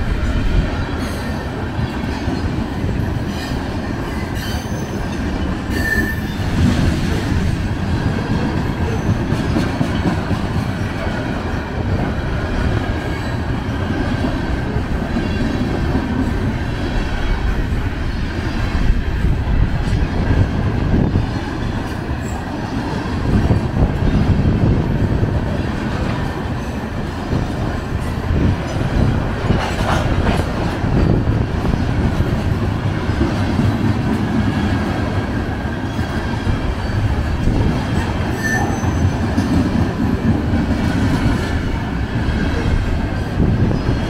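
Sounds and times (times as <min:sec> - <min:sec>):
steel train wheels on rails: 0:00.0 - 0:44.0.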